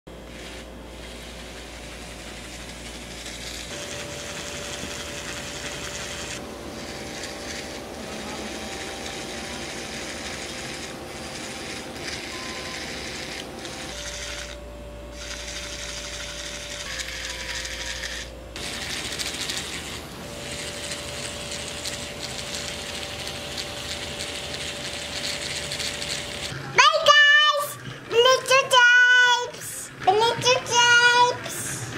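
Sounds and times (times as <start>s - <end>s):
toy motor whirring and clicking: 0.2s - 26.6s, 27.6s - 31.9s.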